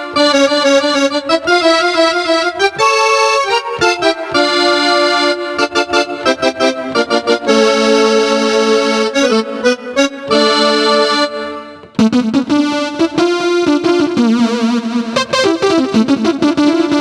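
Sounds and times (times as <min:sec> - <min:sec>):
electronic keyboard tune: 0:00.0 - 0:17.0.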